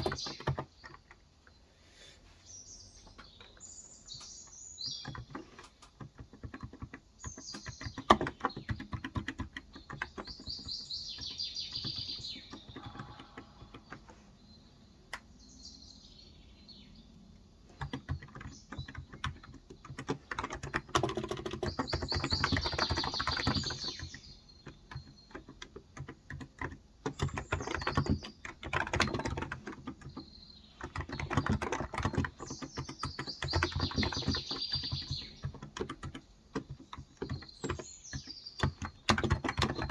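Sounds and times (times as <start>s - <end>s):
keyboard typing: 0.0s - 1.3s, 4.9s - 14.2s, 17.6s - 39.9s
birds chirping: 0.0s - 39.9s.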